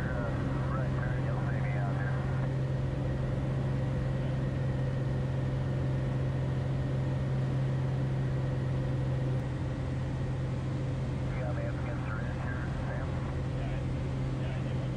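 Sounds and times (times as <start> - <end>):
airplane engine drone: 0.0 - 14.9.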